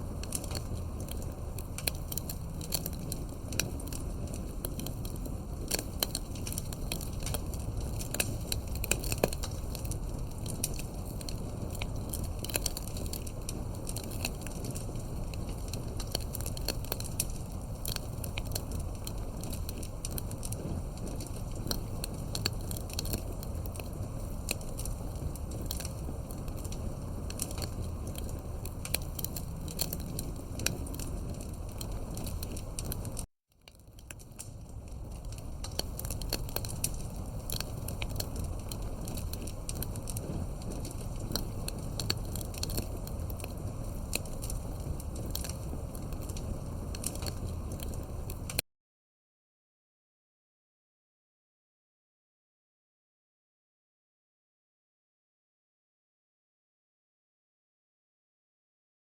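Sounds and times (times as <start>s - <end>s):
campfire crackling and popping: 0.0s - 48.6s
low rumble of flames: 0.0s - 48.6s.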